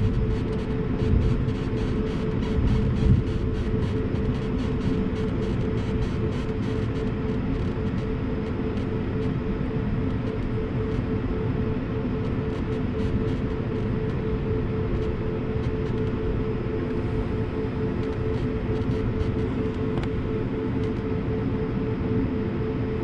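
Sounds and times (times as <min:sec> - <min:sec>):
jet engines drone in cabin: 0:00.0 - 0:23.0.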